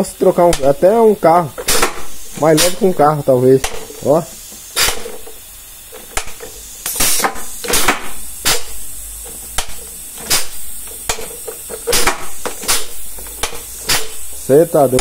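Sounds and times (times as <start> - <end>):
short air hiss: 0.0 - 15.0.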